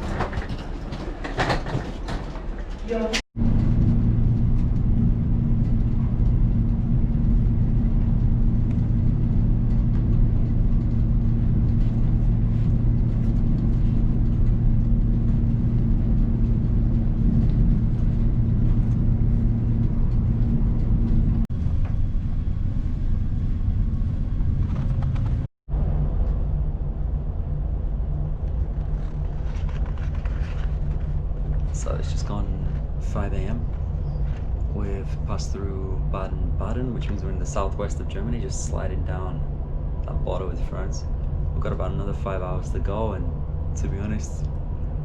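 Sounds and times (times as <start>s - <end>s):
train rumble inside carriage: 0.0s - 45.0s.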